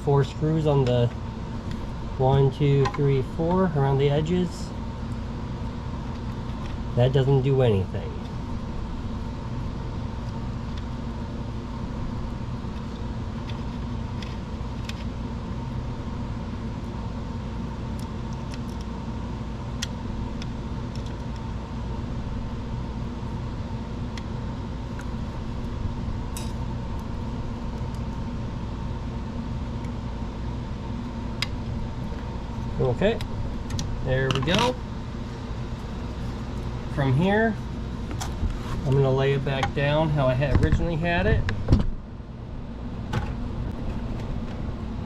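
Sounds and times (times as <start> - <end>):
background hum: 0.0 - 45.0.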